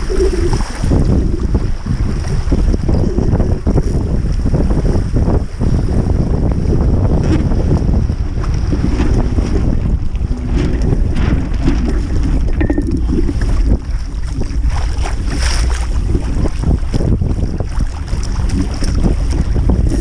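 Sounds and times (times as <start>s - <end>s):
water splashing against hull: 0.0s - 20.0s
wind buffeting microphone: 0.0s - 20.0s.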